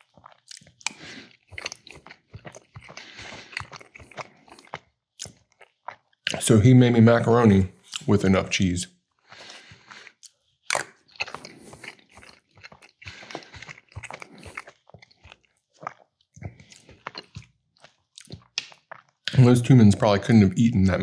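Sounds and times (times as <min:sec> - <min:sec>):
person chewing food: 0:00.0 - 0:06.6, 0:07.8 - 0:08.2, 0:09.1 - 0:20.1.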